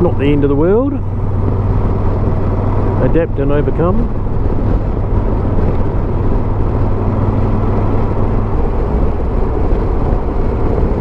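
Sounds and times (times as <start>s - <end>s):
motorcycle engine drone: 0.0s - 11.0s
wind and road noise: 0.0s - 11.0s.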